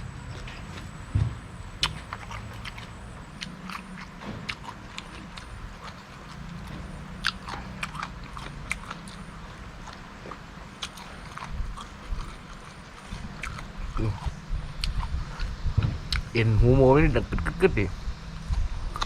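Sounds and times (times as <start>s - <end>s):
person chewing crunchy cartilage: 0.0s - 16.3s, 18.3s - 19.0s.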